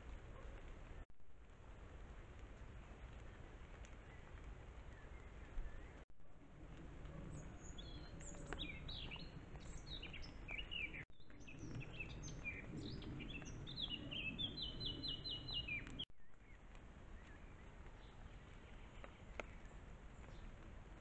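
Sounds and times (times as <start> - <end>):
songbirds chirping: 2.9 - 21.0.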